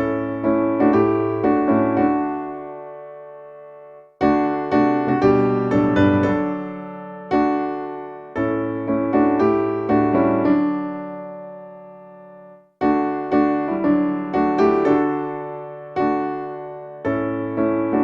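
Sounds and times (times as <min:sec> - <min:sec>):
piano playing a hymn: 0:00.0 - 0:18.0.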